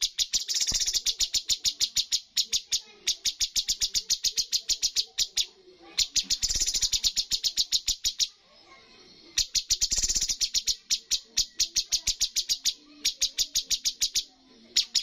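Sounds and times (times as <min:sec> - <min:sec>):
bird chattering sharp notes: 0:00.0 - 0:08.4, 0:09.2 - 0:15.0.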